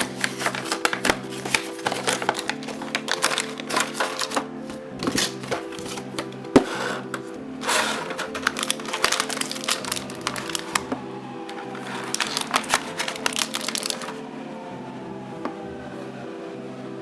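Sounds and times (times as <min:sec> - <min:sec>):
packaging rustle: 0:00.0 - 0:14.2
plastic packaging crackling: 0:00.0 - 0:14.2
background music with held notes: 0:00.0 - 0:17.0.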